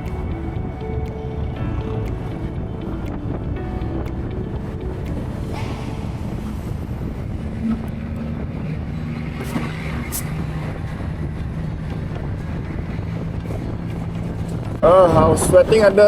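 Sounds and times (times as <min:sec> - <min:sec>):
road rumble: 0:00.0 - 0:16.0
wind rush: 0:00.0 - 0:16.0.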